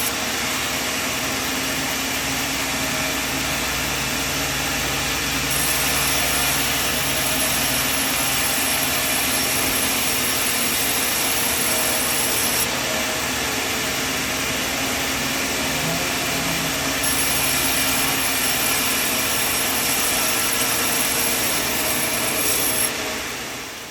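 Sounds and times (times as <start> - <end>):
sawmill machine running: 0.0 - 23.9.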